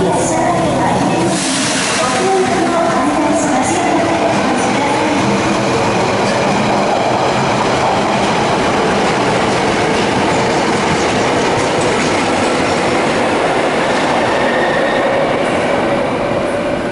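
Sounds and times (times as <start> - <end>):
train wheels rumbling on rail: 0.0 - 16.9.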